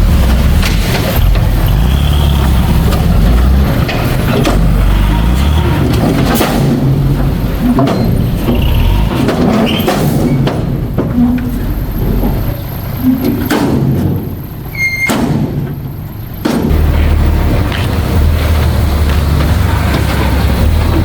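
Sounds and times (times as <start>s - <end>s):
diesel machinery rumbling: 0.0s - 21.0s
metal clanks and knocks: 0.0s - 21.0s.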